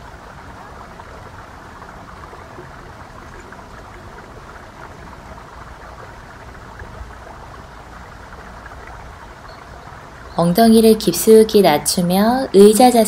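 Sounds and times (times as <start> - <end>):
steady nature hiss: 0.0 - 13.0.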